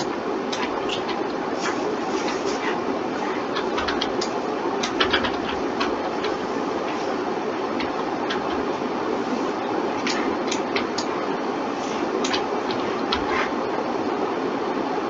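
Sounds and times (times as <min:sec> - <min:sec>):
computer mouse and keyboard clicks: 0:00.0 - 0:13.6
steady hiss: 0:00.0 - 0:15.0.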